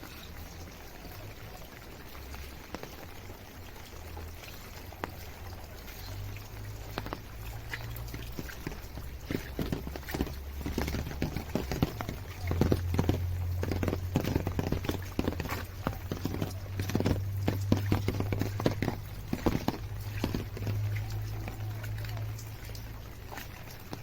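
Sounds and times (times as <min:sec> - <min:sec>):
horse hooves on hard road: 0:00.0 - 0:24.0.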